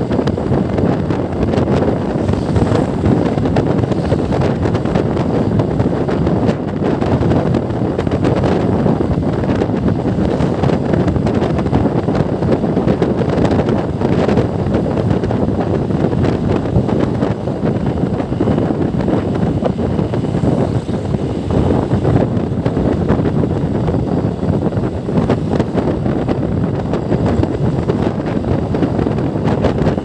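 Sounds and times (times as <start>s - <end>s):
road noise: 0.0s - 30.0s
wind rushing over microphone: 0.0s - 30.0s.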